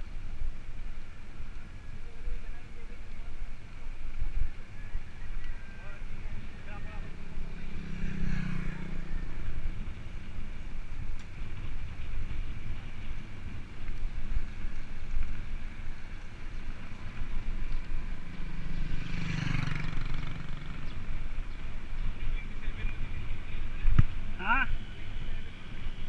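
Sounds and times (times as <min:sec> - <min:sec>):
vehicles passing by: 0:00.0 - 0:26.0
wind and road noise: 0:00.0 - 0:26.0.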